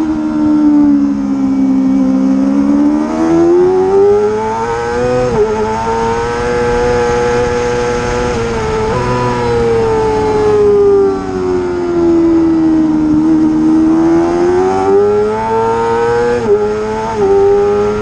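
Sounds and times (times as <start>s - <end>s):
racing motorcycle engine: 0.0s - 18.0s.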